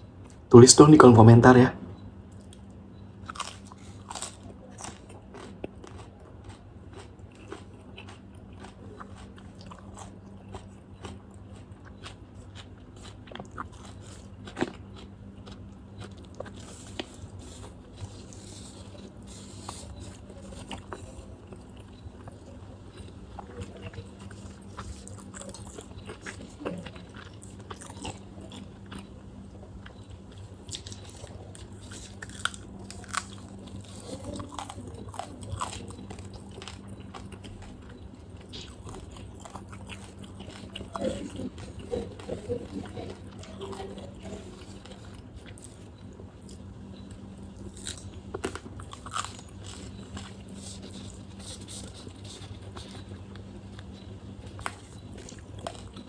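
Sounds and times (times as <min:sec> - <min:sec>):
steady low hum: 0:00.0 - 0:56.0
wet chewing and crunching: 0:02.3 - 0:56.0.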